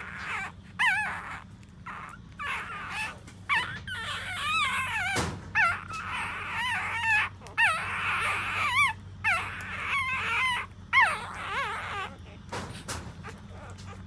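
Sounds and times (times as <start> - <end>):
puppies whimpering and squealing: 0.0 - 14.0.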